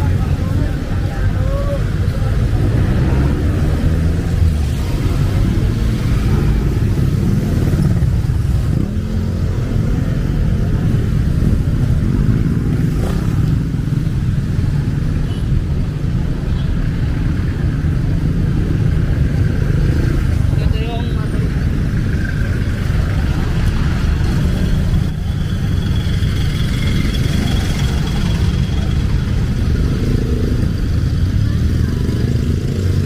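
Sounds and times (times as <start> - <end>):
car engines passing: 0.0 - 33.0
motorcycle engines: 0.0 - 33.0.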